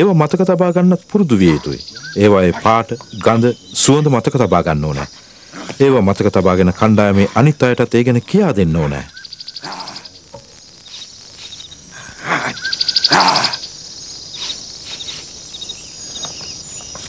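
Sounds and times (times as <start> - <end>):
insects trilling: 0.0 - 17.0
short chirping calls: 1.0 - 17.0.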